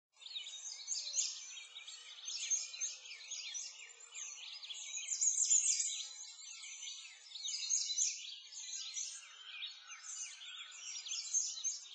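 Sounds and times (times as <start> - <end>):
chorus of birds chirping: 0.2 - 11.9.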